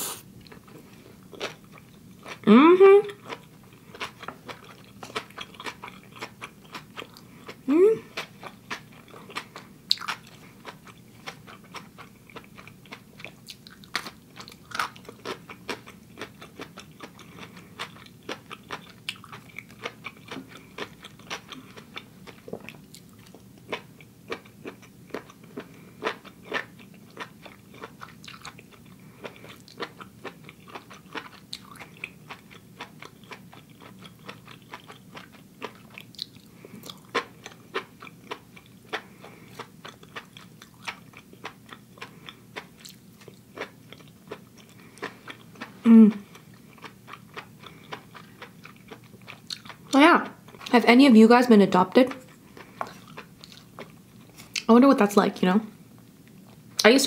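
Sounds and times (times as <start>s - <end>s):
wet chewing: 3.2s - 50.8s, 52.1s - 54.7s.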